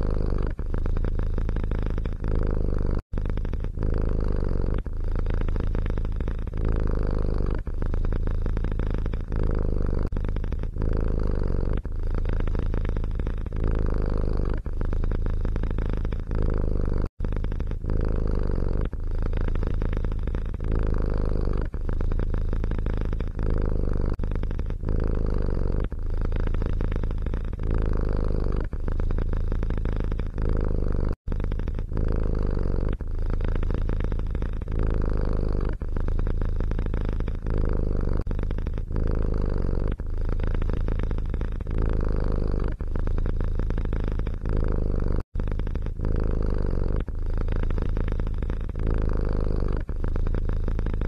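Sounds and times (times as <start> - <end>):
cat purring: 0.0 - 51.0.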